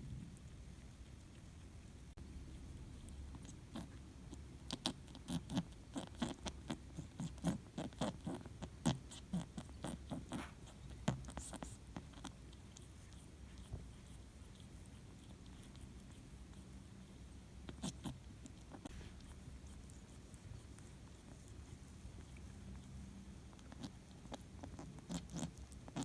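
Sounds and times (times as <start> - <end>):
kitten licking fur: 0.0 - 26.0.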